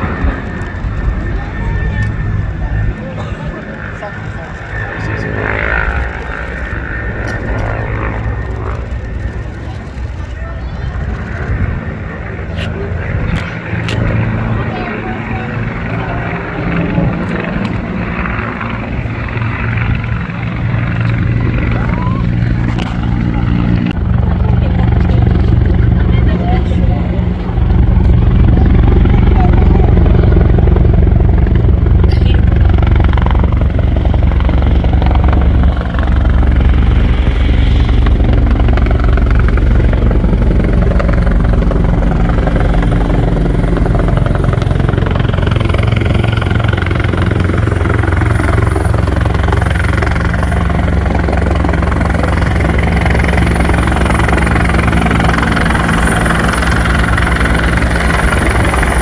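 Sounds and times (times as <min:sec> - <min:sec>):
helicopter rotor beating: 0:00.0 - 0:59.0
high turbine whine: 0:00.0 - 0:59.0.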